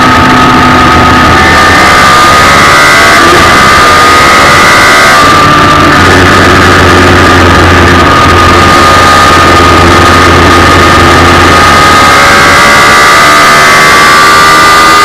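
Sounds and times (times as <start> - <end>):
race car engine at steady revs: 0.0 - 15.0.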